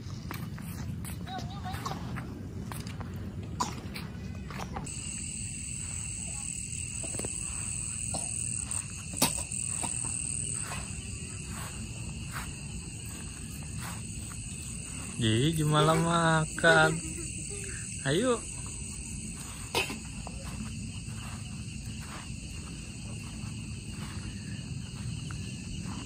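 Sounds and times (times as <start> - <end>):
night insects chirring: 4.7 - 26.0.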